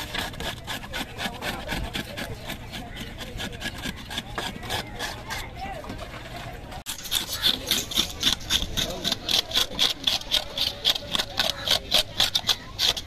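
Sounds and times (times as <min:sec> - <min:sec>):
knife scraping fish scales: 0:00.0 - 0:05.6, 0:06.9 - 0:13.0.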